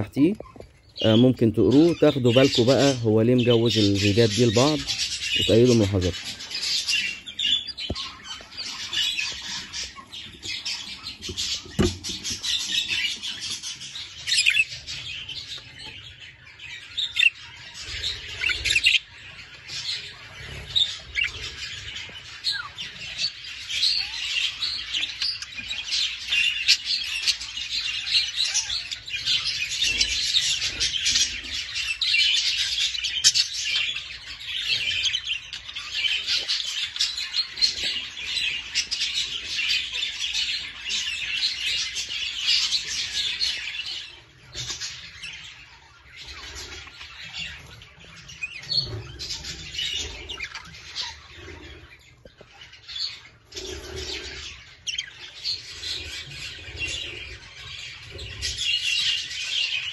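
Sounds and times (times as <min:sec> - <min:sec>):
budgerigars chattering and chirping: 0:00.0 - 0:59.9.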